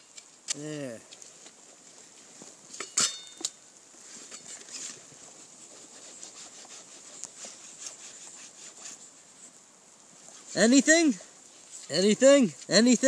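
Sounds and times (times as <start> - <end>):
fire starter scraping: 0.0 - 13.0.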